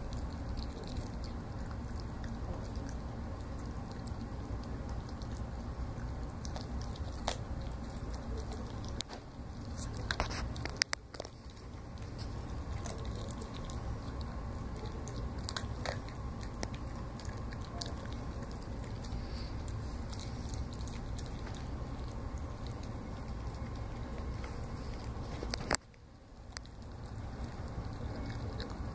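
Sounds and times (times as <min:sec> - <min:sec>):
puppy chewing food: 0:00.0 - 0:28.9
steady low hum: 0:00.0 - 0:28.9
wet crunching clicks: 0:00.0 - 0:28.9.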